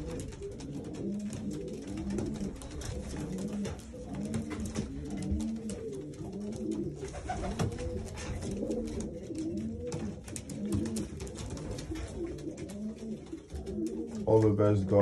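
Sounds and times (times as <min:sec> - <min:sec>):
pigeons cooing: 0:00.0 - 0:14.4.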